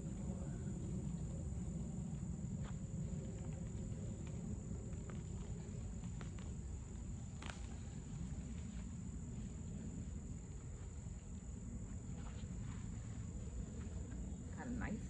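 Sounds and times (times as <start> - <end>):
insect chorus: 0.0 - 15.0
low steady rumble: 0.0 - 15.0.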